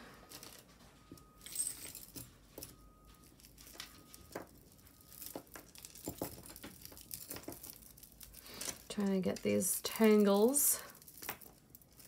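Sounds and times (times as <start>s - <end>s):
jewelry clicking and rustling: 0.2s - 12.0s.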